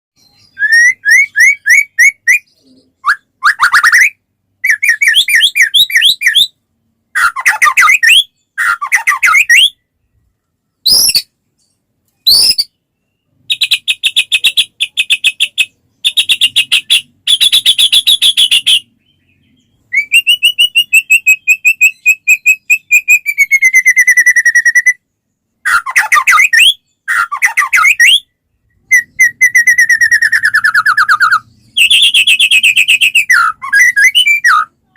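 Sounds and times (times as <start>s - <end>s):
sharp upward bird whistles: 0.2s - 6.6s, 7.2s - 9.8s, 10.8s - 11.4s, 12.2s - 18.9s, 19.8s - 25.0s, 25.6s - 34.7s
songbird singing trills: 0.2s - 34.9s.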